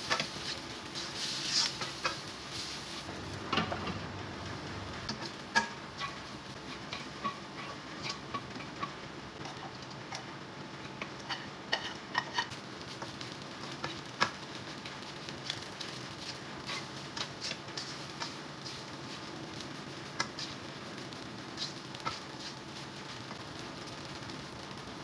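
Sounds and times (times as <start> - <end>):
spatula tapping wok: 0.0 - 2.5, 5.0 - 25.0
frying sizzle: 0.0 - 25.0.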